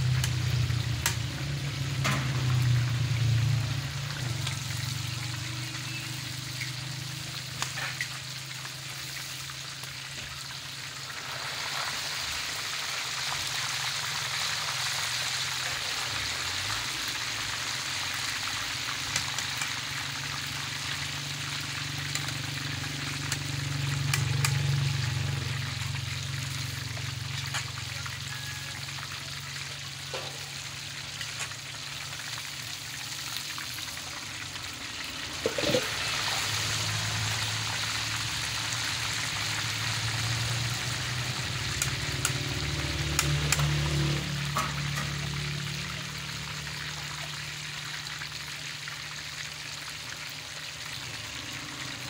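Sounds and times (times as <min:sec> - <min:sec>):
oil sizzling while deep-frying: 0:00.0 - 0:52.0.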